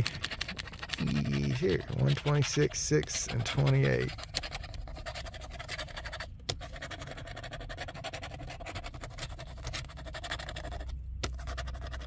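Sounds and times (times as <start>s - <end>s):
pencil scratching lottery ticket: 0.0s - 12.0s.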